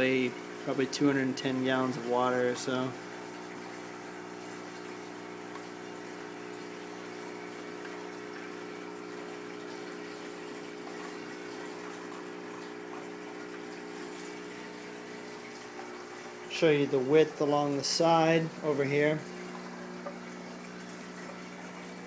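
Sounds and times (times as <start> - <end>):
flowing water: 0.0 - 22.0
pump humming: 0.0 - 22.0.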